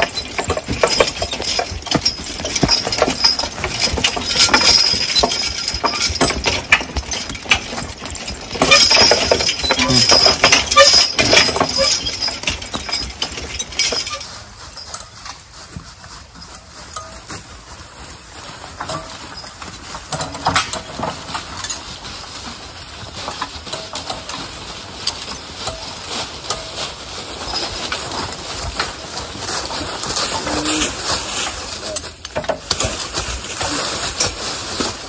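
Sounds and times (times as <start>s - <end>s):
harness chains rattling: 0.0s - 35.0s
hooves crunching through dry leaves: 0.0s - 35.0s
wheeled cart rattling: 0.0s - 35.0s.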